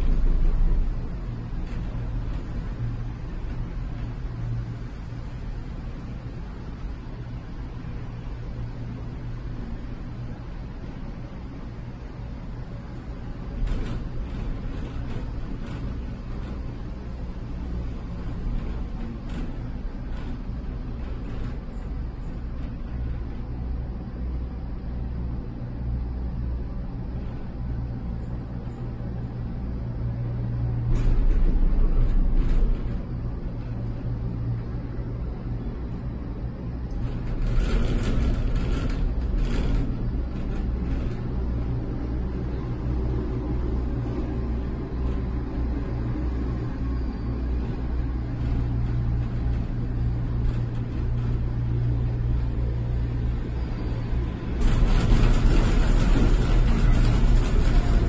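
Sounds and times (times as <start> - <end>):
cable car cabin humming: 0.0 - 58.0
cable car rumble: 0.0 - 58.0
gondola rattling into station: 0.0 - 58.0.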